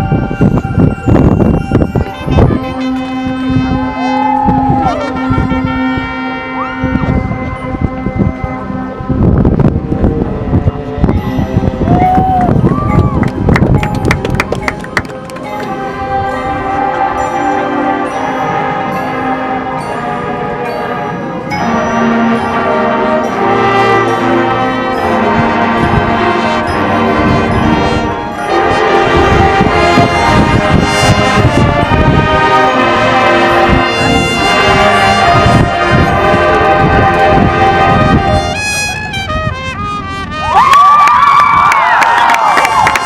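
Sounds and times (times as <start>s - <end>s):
marching band playing: 0.0s - 12.0s, 12.7s - 40.7s.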